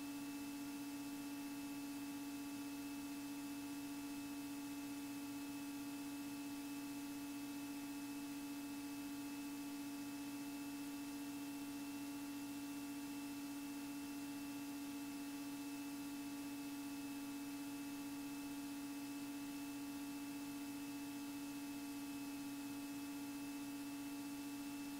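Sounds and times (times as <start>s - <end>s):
electrical hum with hiss: 0.0s - 24.9s.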